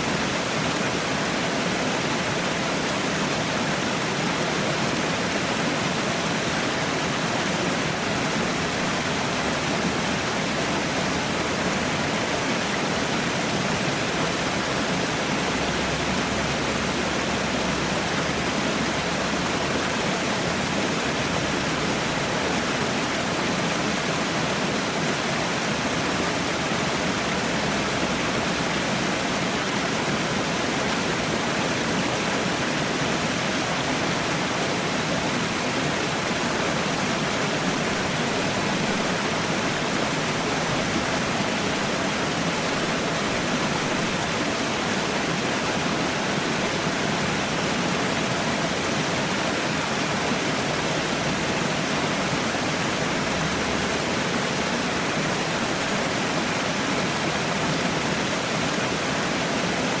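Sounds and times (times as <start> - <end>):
falling water rushing: 0.0 - 60.0.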